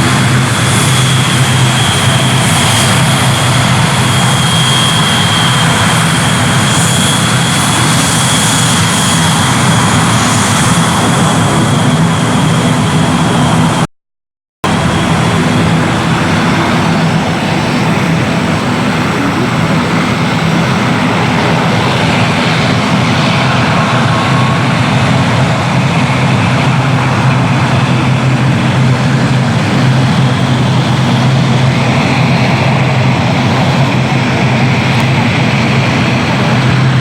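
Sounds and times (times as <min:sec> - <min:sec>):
airliner engines droning: 0:00.0 - 0:13.9, 0:14.6 - 0:37.0.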